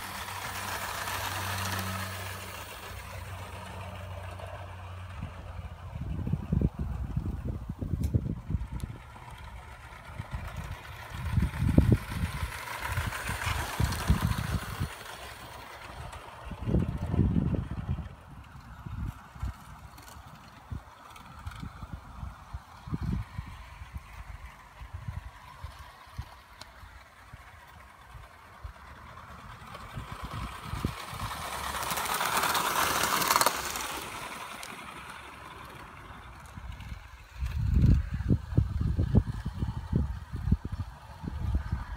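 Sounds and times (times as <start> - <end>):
model steam train hissing rumble: 0.0 - 41.9
wind buffeting microphone: 0.0 - 41.9.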